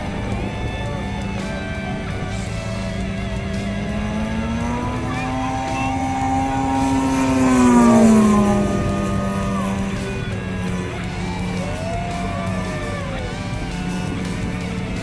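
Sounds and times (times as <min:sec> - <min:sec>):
model plane engine and propeller: 0:00.0 - 0:15.0.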